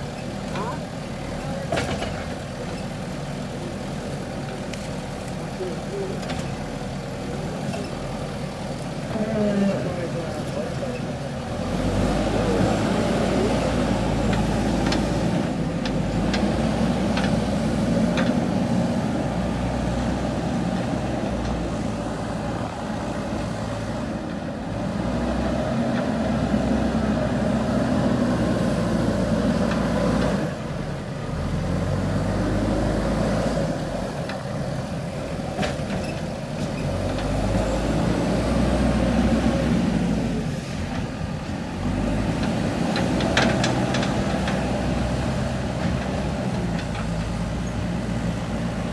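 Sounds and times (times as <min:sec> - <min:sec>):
diesel engine under changing load: 0:00.0 - 0:48.9.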